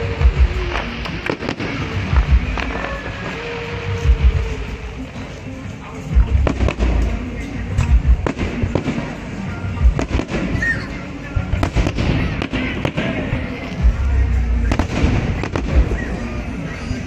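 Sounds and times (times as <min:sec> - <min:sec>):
fireworks bangs and booms: 0:00.0 - 0:05.2, 0:06.1 - 0:17.0
background music: 0:00.0 - 0:17.0.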